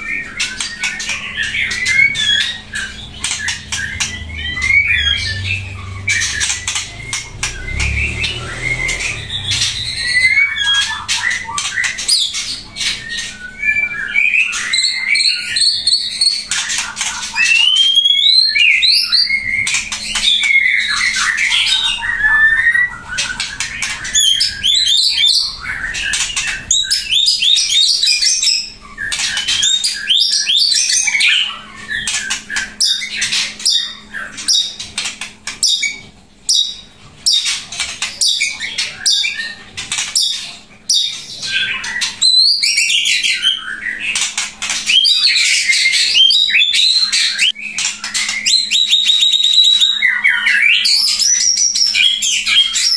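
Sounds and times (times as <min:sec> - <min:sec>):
bird singing whistles and clicks: 0:00.3 - 0:12.3, 0:12.9 - 0:52.9.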